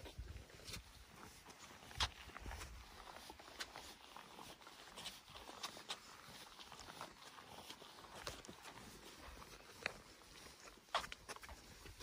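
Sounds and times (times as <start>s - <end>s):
footsteps on concrete: 0.0s - 12.0s.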